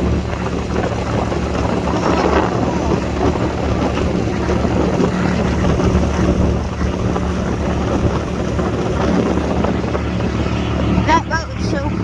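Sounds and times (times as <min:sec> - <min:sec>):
boat engine running: 0:00.0 - 0:12.0
water noise: 0:00.0 - 0:12.0
wind on microphone: 0:00.0 - 0:12.0.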